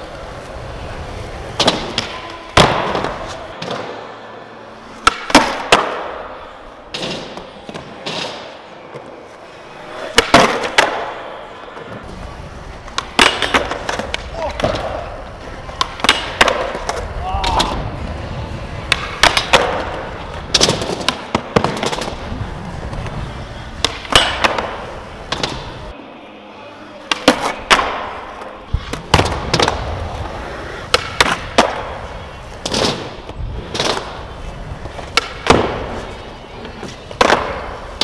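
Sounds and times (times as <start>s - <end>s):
skateboard wheels rolling: 0.0s - 26.1s, 26.7s - 38.0s
skateboard popping and landing: 1.3s - 4.1s, 5.0s - 6.3s, 9.8s - 25.9s, 27.1s - 38.0s.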